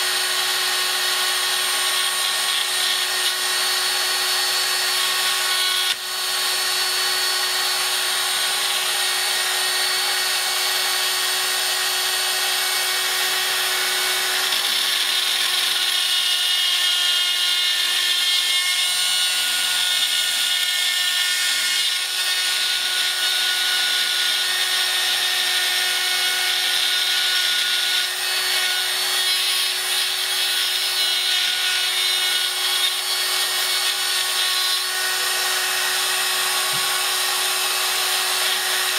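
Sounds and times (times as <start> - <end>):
mini drill motor whine: 0.0 - 38.9.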